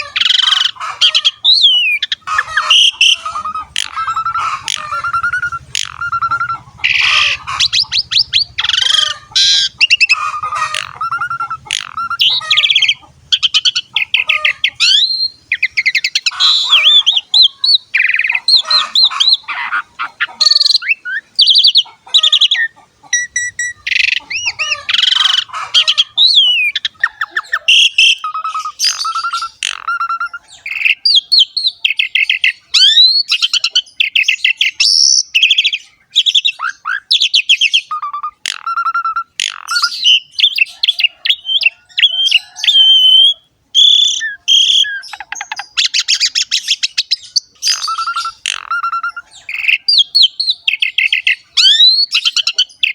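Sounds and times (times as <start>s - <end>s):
bird singing whistles and trills: 0.0s - 52.9s.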